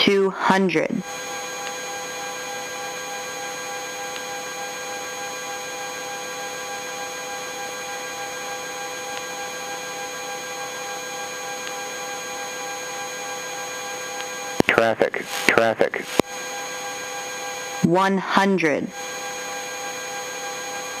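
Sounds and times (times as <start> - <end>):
helicopter turbine whine: 0.0 - 21.0.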